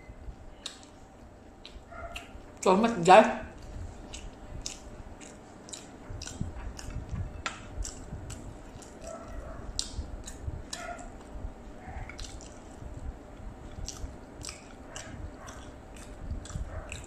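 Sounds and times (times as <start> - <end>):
wet chewing and lip smacking: 0.6 - 2.7, 3.5 - 17.0.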